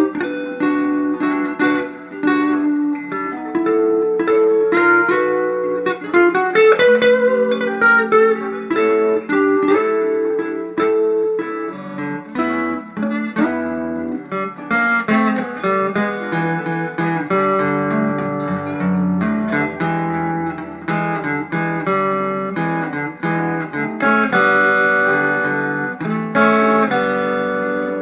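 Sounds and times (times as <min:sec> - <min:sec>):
electric guitar notes: 0:00.0 - 0:28.0.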